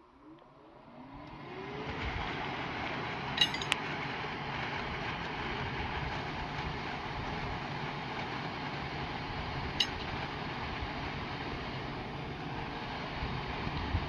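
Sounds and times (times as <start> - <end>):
electric blower whining: 0.8 - 14.0.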